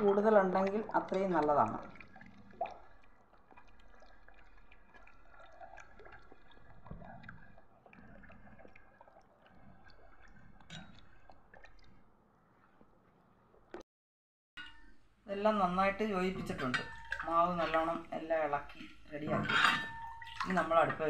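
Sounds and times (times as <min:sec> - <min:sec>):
wet squishing and slopping: 0:00.0 - 0:13.0, 0:16.2 - 0:21.0.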